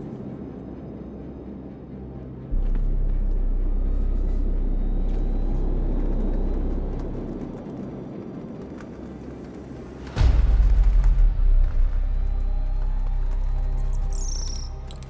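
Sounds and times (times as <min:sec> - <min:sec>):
deep bass rumble: 0:00.0 - 0:15.0.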